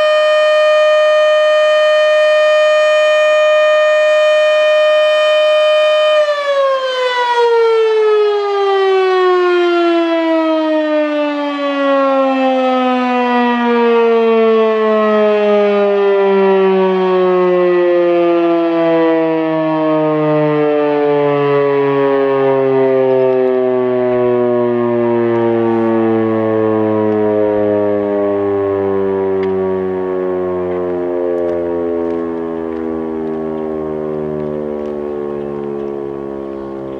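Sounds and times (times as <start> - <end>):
warning siren winding down: 0.0 - 36.9.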